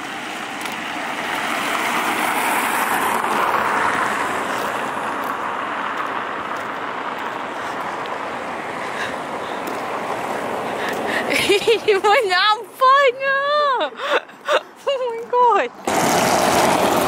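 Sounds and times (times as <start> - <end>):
tyre noise of passing cars: 0.0 - 17.0.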